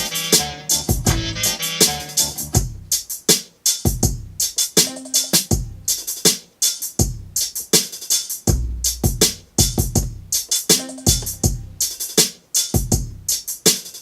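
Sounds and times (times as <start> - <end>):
hip-hop drum beat: 0.0 - 14.0.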